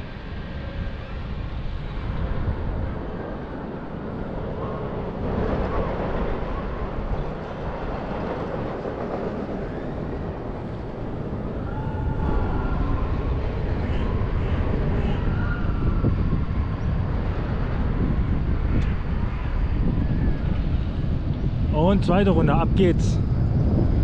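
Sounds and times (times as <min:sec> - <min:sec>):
low rumble of ride: 0:00.0 - 0:24.0
wind rushing over microphone: 0:00.0 - 0:24.0.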